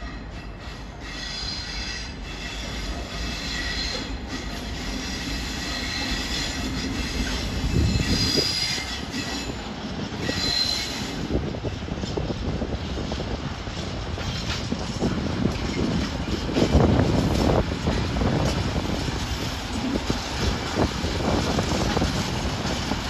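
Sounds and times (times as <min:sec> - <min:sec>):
diesel locomotive rumbling past: 0:00.0 - 0:23.0
wheels squealing on rails: 0:00.0 - 0:23.0.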